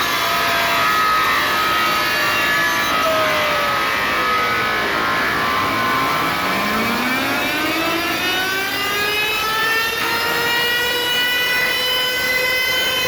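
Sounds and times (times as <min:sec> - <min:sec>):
siren-like wail through speakers: 0:00.0 - 0:13.0.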